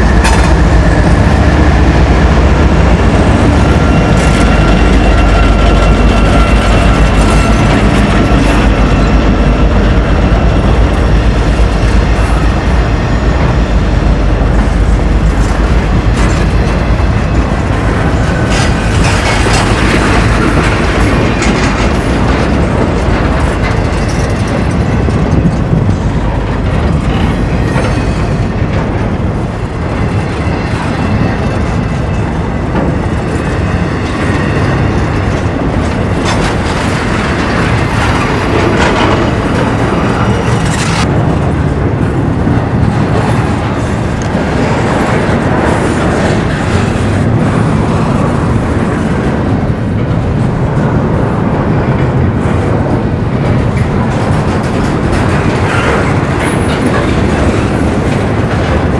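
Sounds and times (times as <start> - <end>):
train wheels clacking on rails: 0.0 - 58.9.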